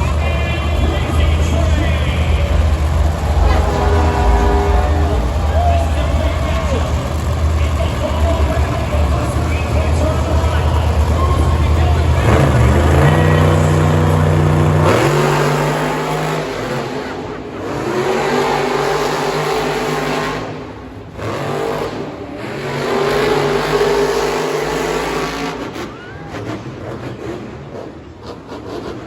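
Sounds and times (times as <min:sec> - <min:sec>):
monster truck engines revving: 0:00.0 - 0:29.0.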